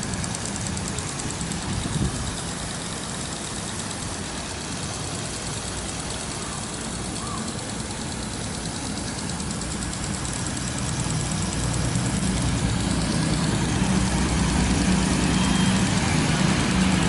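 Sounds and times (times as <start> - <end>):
low engine-like hum: 0.0 - 17.0
sprinkler spraying water: 0.0 - 17.0.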